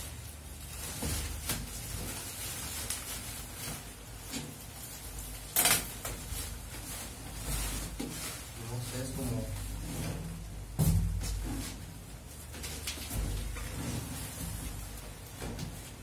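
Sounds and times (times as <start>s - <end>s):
bubble wrap rustling and crinkling: 0.0s - 16.0s.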